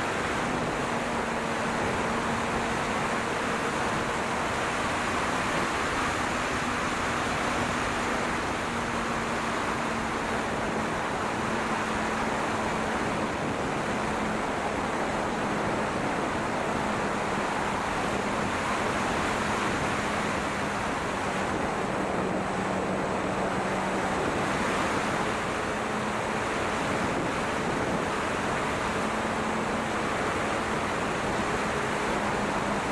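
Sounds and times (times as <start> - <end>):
wind rushing over microphone: 0.0 - 32.9.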